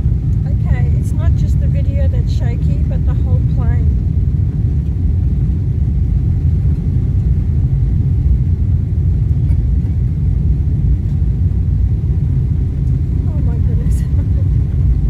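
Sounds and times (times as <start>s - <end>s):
jet engines roaring: 0.0s - 15.0s
wheels rumbling on runway: 0.0s - 15.0s.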